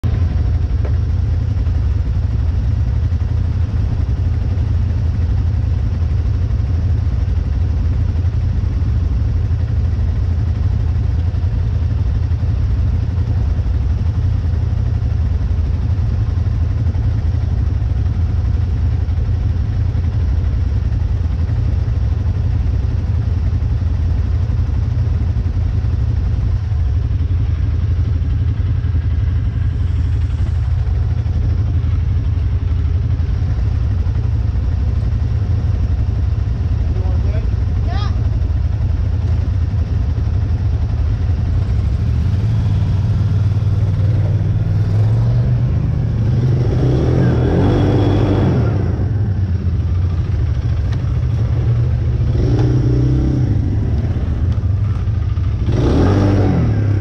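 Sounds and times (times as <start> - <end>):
engines idling: 0.0 - 57.0.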